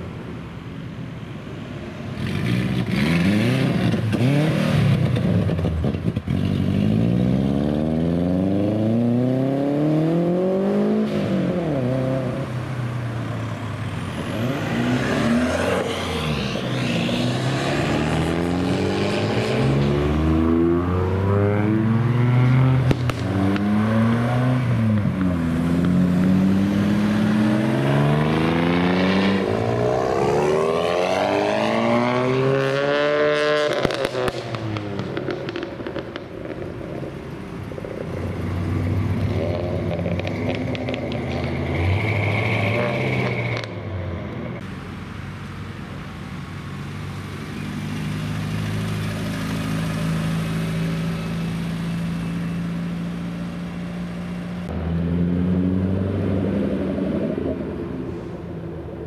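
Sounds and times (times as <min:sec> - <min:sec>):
car engines revving: 0:00.0 - 0:59.0
cars driving by: 0:00.0 - 0:59.0.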